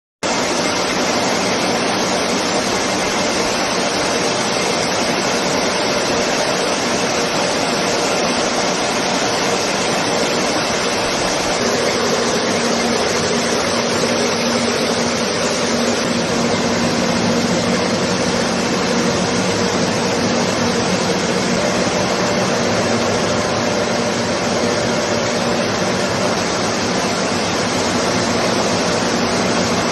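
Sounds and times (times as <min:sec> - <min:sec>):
dense machine noise: 0:00.2 - 0:29.9.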